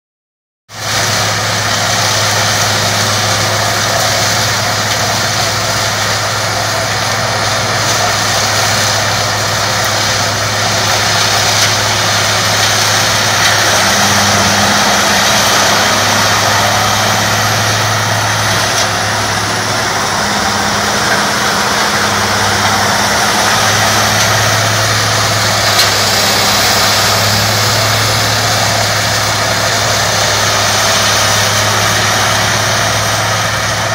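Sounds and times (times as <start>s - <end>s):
woodchipper running: 0.7s - 33.9s
higher mechanical hum: 0.8s - 33.9s.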